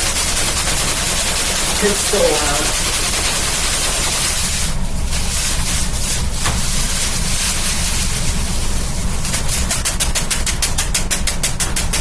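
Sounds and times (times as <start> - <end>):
box fan air rush: 0.0 - 12.0.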